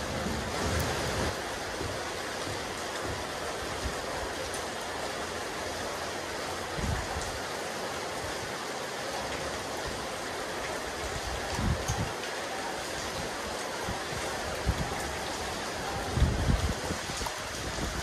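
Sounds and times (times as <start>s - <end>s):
rain falling on a roof: 0.0s - 18.0s.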